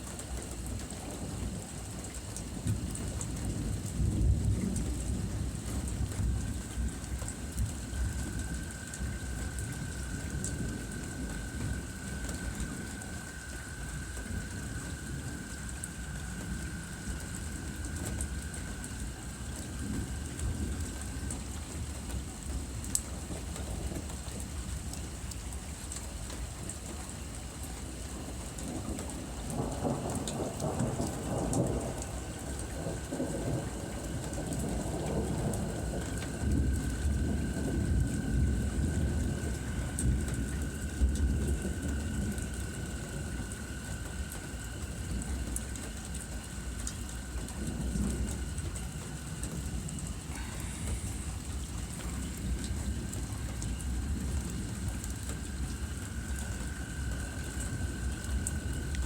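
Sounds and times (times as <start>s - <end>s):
rain falling: 0.0s - 59.0s
thunder rumbling: 2.5s - 24.4s, 28.2s - 59.0s.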